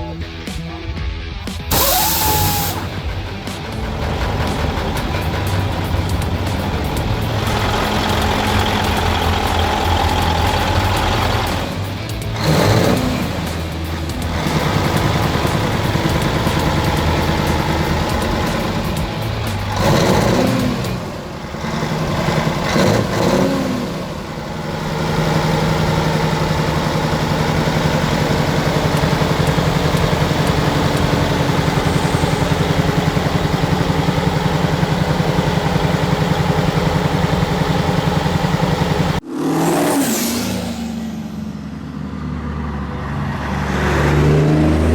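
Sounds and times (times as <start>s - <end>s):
heavy truck engines revving: 1.6s - 44.9s.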